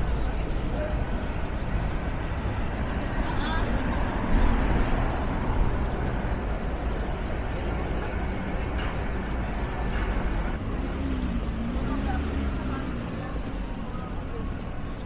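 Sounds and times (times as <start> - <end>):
buses and cars driving past: 0.0 - 15.0
faint voices of passers-by: 0.0 - 15.0.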